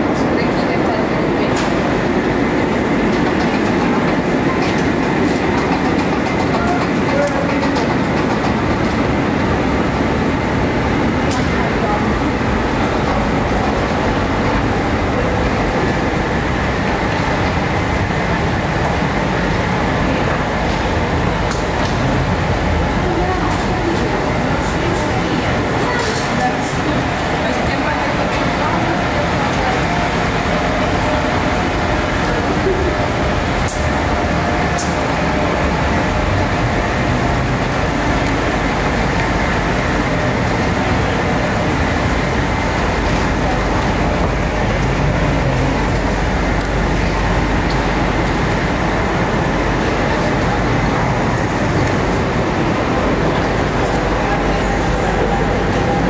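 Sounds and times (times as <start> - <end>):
escalator humming and rumbling: 0.0 - 56.0.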